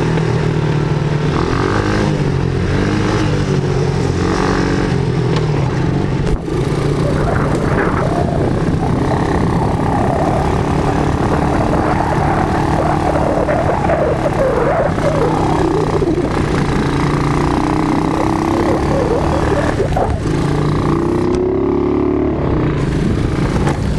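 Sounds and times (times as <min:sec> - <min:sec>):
quad bike engine running: 0:00.0 - 0:23.9.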